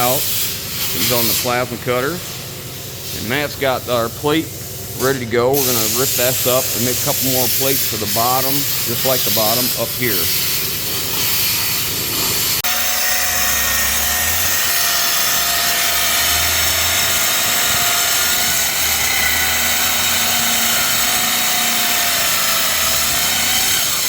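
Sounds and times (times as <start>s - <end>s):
plasma cutter hissing: 0.0s - 24.0s.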